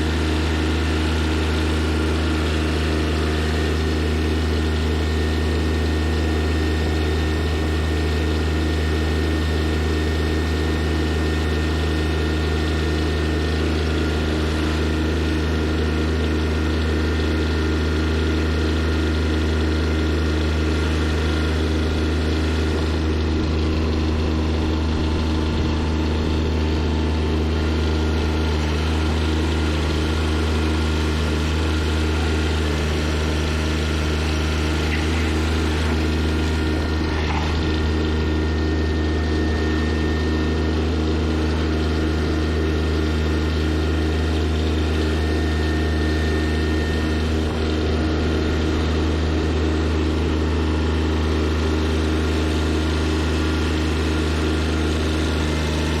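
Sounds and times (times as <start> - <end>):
loader engine running steadily: 0.0 - 56.0.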